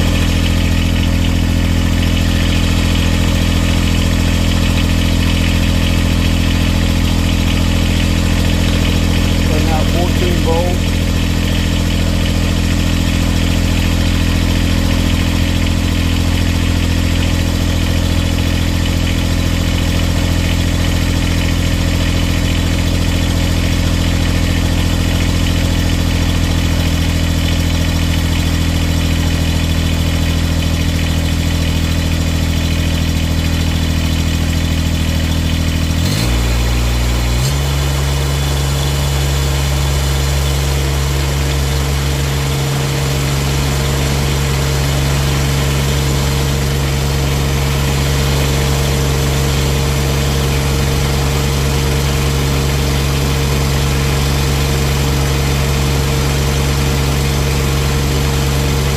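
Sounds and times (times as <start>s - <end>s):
excavator engine running: 0.0s - 58.9s.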